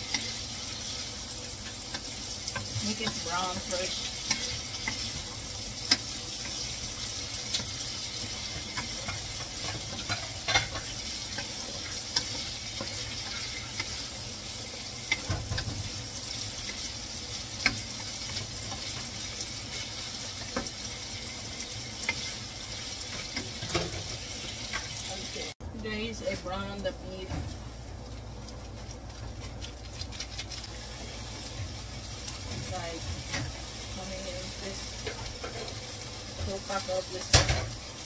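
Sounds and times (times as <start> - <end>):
sausage sizzling in a frying pan: 0.0 - 38.0.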